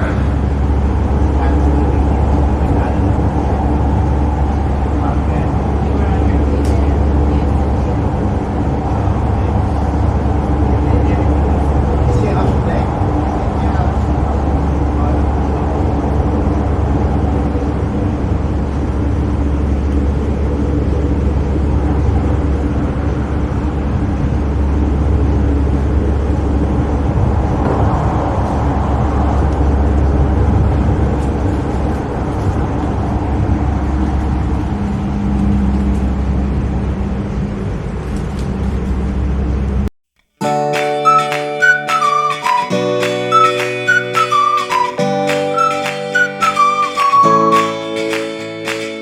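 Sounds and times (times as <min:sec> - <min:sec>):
train rumble from inside: 0:00.0 - 0:39.9.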